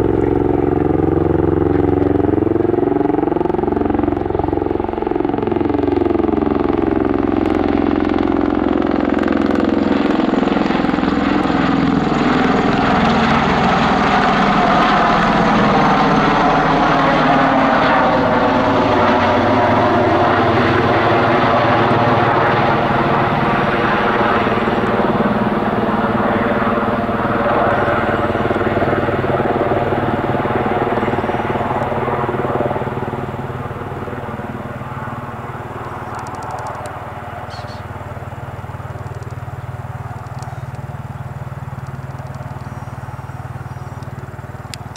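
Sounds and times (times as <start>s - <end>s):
tiltrotor aircraft drone: 0.0s - 44.9s.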